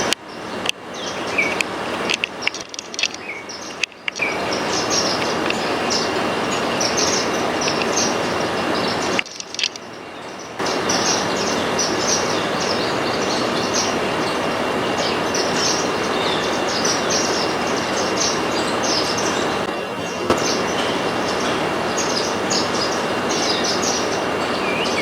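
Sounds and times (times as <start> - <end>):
birds twittering: 0.0 - 25.0
loud background noise: 0.0 - 25.0.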